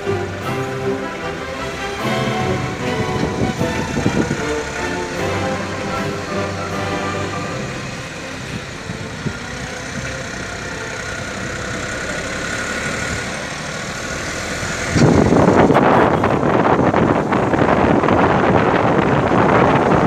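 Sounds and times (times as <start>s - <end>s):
wind hitting microphone: 0.0s - 20.0s
vehicle engine running: 2.6s - 20.0s.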